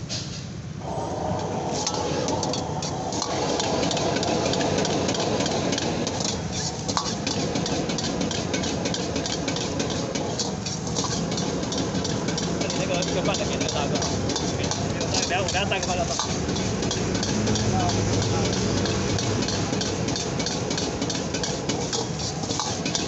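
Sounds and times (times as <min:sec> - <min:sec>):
gas burner roaring: 0:00.0 - 0:23.0
ladle clanking against wok: 0:01.4 - 0:23.0.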